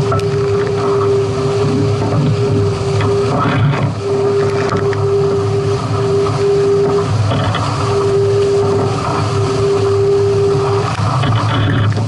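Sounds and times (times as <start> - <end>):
rushing water: 0.0 - 12.0
steady humming tone: 0.0 - 12.0
wind buffeting microphone: 0.0 - 12.0.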